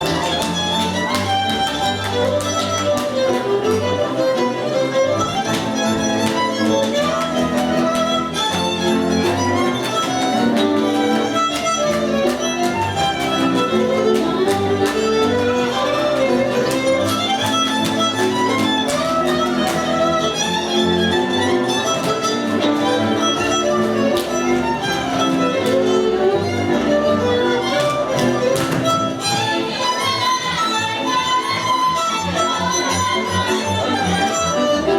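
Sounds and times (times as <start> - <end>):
string accompaniment with bass: 0.0 - 34.9
violin melody: 0.0 - 34.9.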